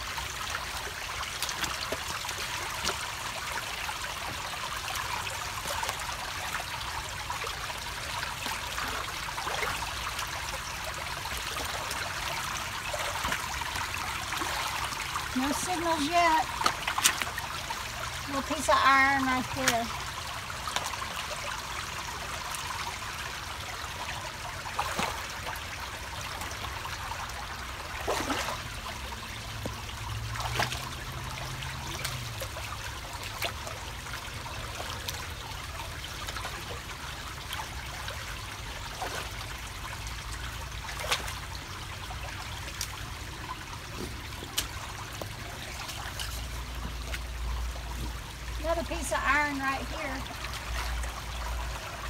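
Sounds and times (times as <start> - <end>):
water trickling over rocks: 0.0 - 52.0.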